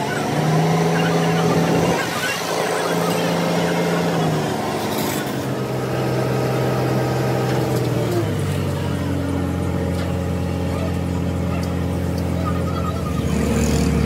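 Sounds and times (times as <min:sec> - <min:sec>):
crane diesel engine running: 0:00.0 - 0:14.0.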